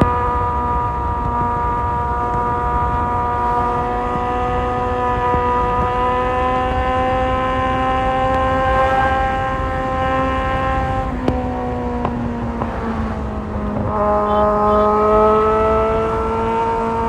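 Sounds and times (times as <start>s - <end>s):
wind noise: 0.0s - 17.0s.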